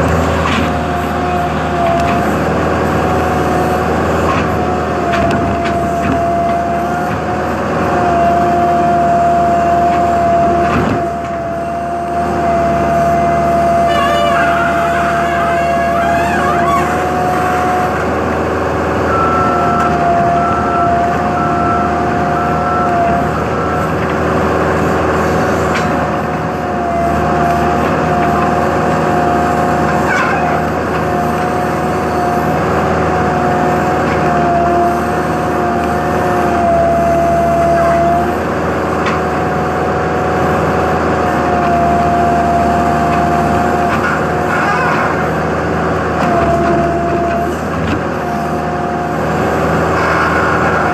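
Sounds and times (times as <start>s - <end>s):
heavy diesel machinery running: 0.0s - 50.9s
hydraulic whine: 0.0s - 50.9s.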